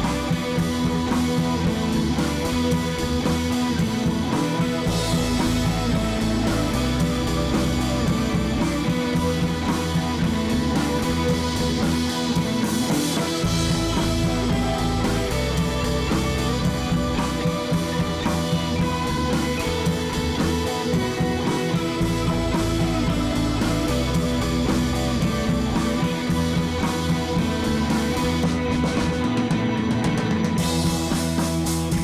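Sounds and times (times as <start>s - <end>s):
background music with guitar and drums: 0.0s - 32.0s.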